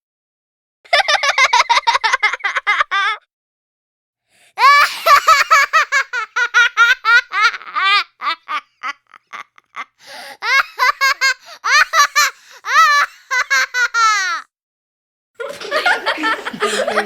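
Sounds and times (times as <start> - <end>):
children laughing: 0.9 - 3.2, 4.6 - 14.5, 15.4 - 17.0.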